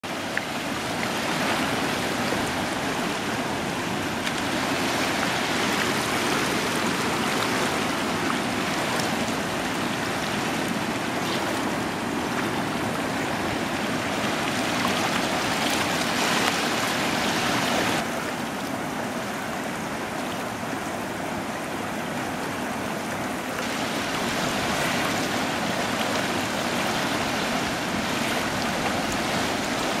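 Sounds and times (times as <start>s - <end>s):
river rapids roaring: 0.0s - 30.0s.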